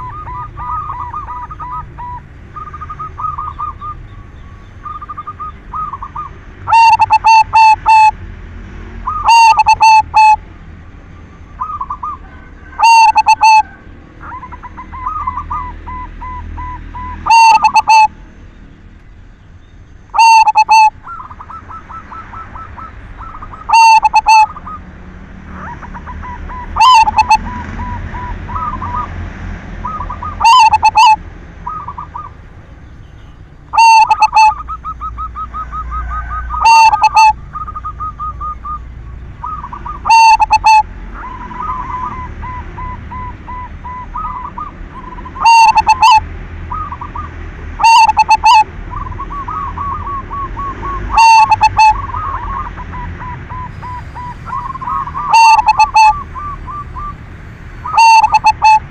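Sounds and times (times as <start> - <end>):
dove cooing loudly: 0.0 - 4.0, 4.8 - 8.2, 9.0 - 10.4, 11.6 - 18.2, 20.2 - 29.2, 29.8 - 32.4, 33.7 - 58.9
faint rapid bird trills: 0.0 - 8.2, 9.0 - 10.4, 11.1 - 24.8, 25.5 - 29.1, 29.8 - 58.9.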